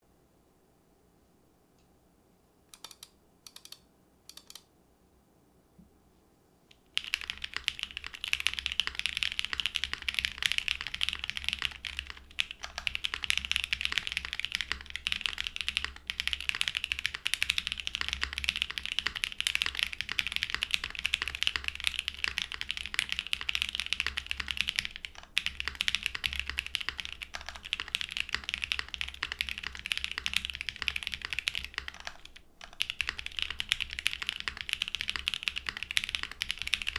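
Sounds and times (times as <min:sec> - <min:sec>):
typing on mechanical keyboard: 0:02.7 - 0:04.6, 0:06.8 - 0:36.9.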